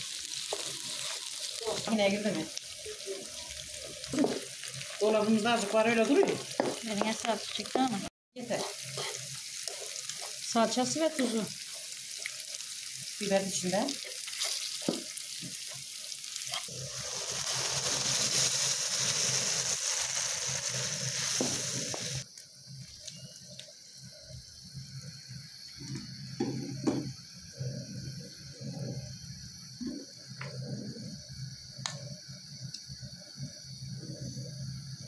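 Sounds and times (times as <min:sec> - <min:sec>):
loud hiss of water in pan: 0:00.0 - 0:35.0
vegetables sizzling in frying pan: 0:00.0 - 0:35.0.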